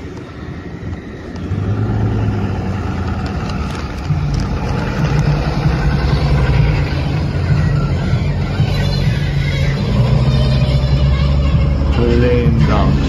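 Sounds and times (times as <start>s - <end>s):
pickup engine humming: 0.0s - 13.0s.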